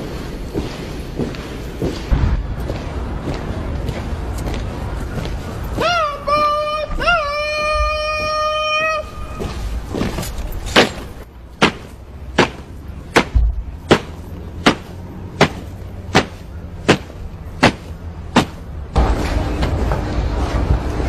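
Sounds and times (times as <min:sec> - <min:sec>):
boots marching in step: 0:00.0 - 0:18.8.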